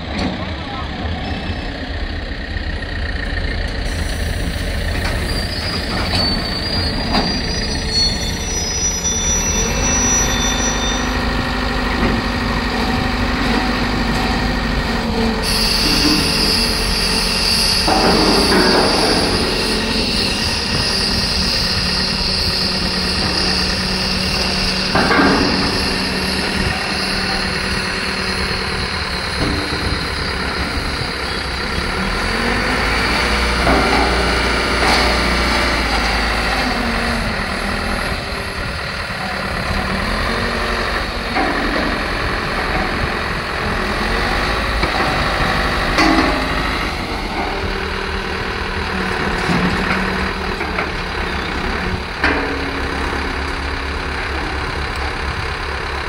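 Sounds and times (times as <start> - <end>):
crane engine running: 0.0 - 56.0.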